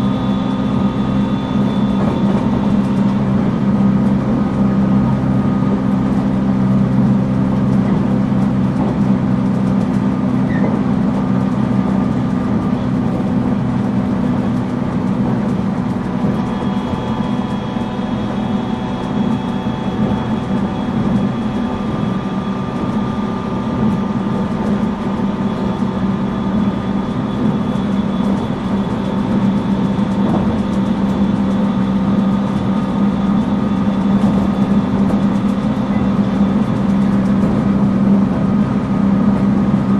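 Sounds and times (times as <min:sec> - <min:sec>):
train motor hum and whine: 0:00.0 - 0:39.9.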